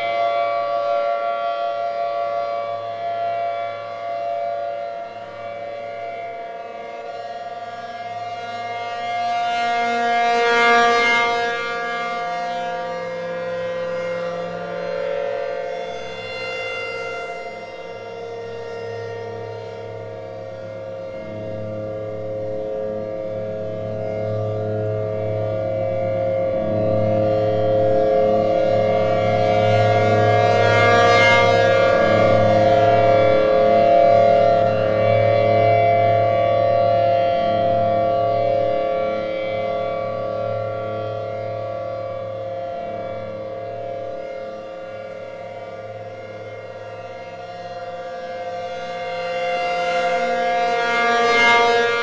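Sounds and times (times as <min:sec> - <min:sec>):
outdoor warning siren steady tone: 0:00.0 - 0:52.0.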